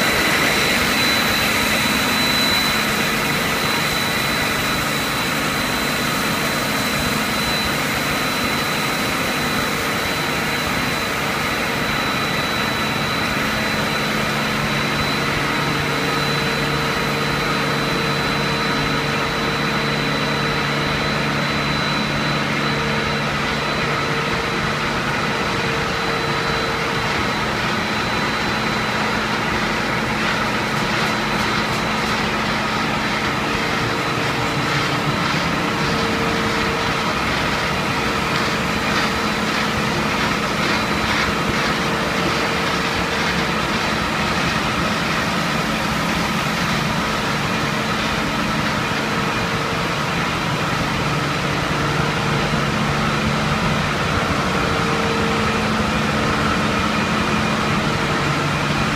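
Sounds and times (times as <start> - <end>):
high whine: 0.0 - 58.9
machinery drone: 0.0 - 58.9.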